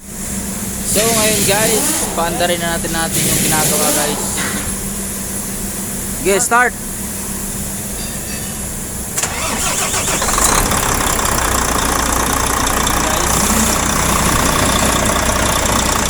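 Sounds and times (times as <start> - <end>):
diesel engine cranking and idling: 0.0 - 7.9, 8.6 - 16.0.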